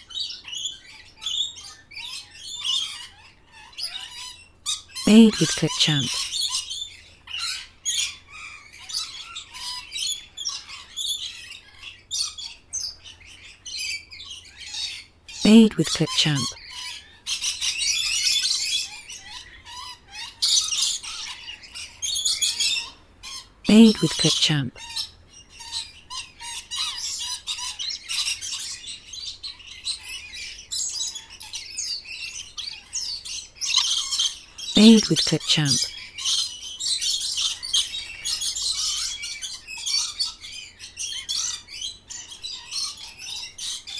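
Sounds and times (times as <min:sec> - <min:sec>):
birds chirping and squawking: 0:00.1 - 0:15.4, 0:16.6 - 0:23.6, 0:24.8 - 0:34.8, 0:35.7 - 0:43.9.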